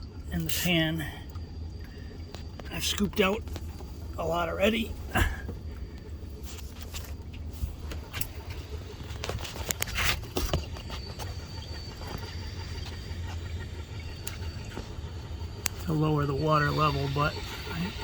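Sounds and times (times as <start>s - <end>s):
air conditioner low hum: 0.0s - 18.0s.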